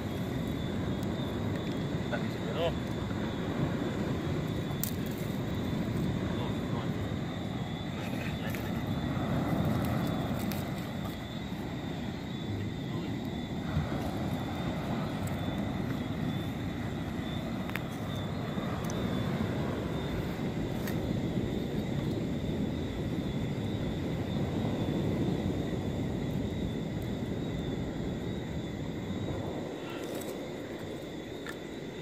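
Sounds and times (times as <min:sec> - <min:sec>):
low rumbling beach ambience: 0:00.0 - 0:32.0.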